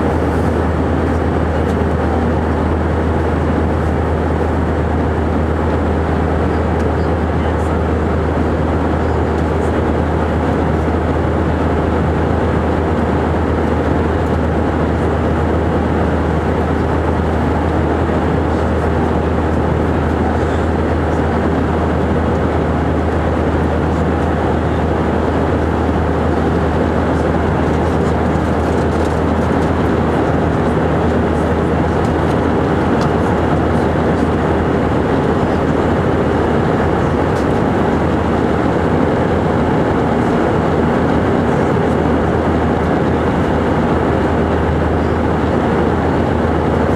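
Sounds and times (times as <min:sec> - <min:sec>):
jet engine drone in cabin: 0:00.0 - 0:46.9.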